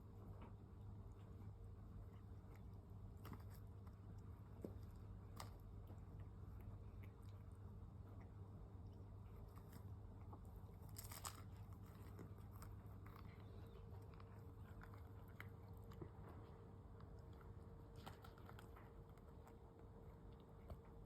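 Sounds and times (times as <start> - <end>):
steady low hum: 0.0 - 21.0
cat chewing toy: 0.4 - 21.0.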